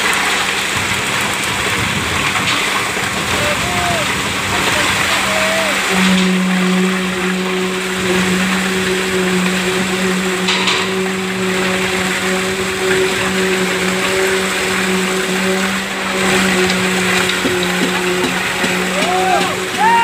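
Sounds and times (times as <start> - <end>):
truck engine and drum humming: 0.0 - 20.0
wet concrete rushing down chute: 0.0 - 20.0.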